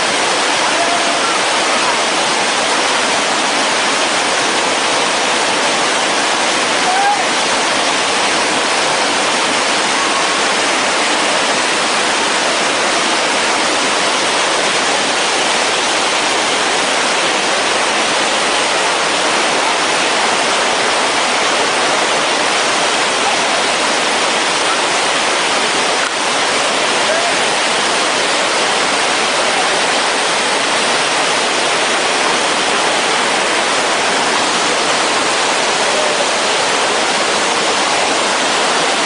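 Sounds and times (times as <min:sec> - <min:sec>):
stream rushing over boulders: 0:00.0 - 0:39.0.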